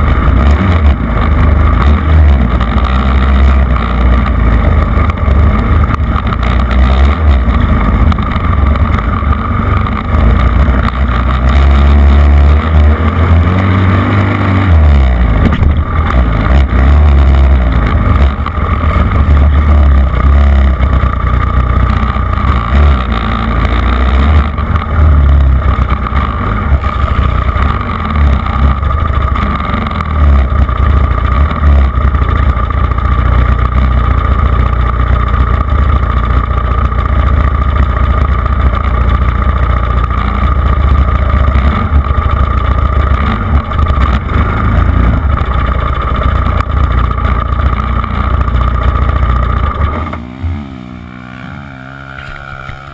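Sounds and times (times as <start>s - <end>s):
off-road vehicle engine running hard: 0.0s - 52.9s.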